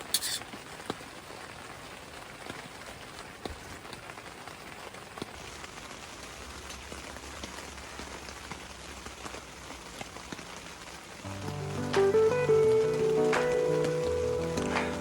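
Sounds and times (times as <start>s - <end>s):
rain hissing: 0.0s - 15.0s
raindrops ticking: 0.0s - 15.0s.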